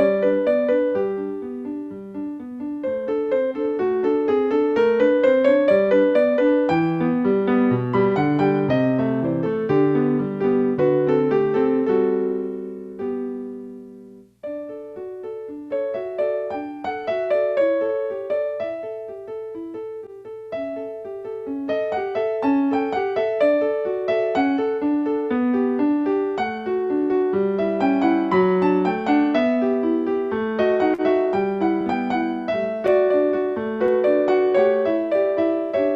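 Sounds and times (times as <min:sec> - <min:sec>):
solo piano playing: 0:00.0 - 0:35.9.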